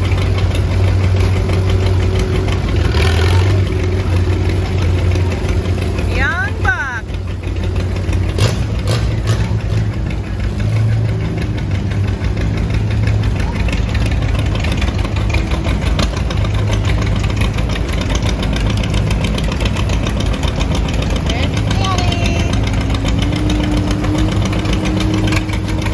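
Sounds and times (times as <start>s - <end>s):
tractor engine droning: 0.0s - 25.9s.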